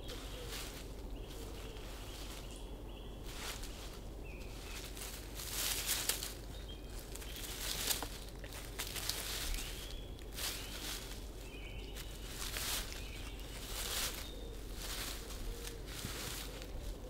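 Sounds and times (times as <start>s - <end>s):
rustling in leaf litter: 0.0s - 17.0s.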